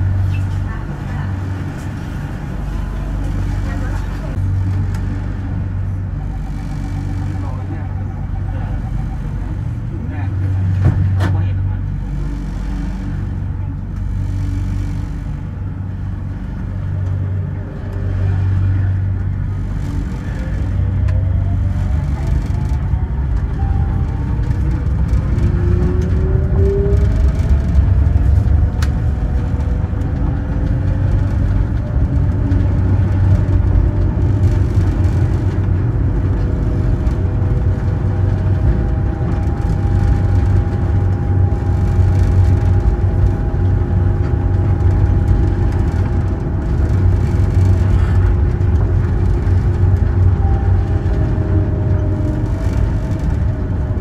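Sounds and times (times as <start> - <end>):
train rumbling on guideway: 0.0 - 54.0
train motor whine: 1.4 - 54.0.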